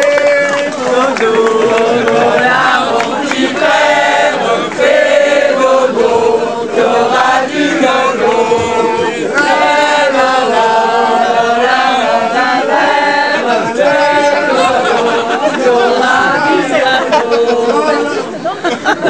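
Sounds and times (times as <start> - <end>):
men singing in chorus: 0.0 - 18.4.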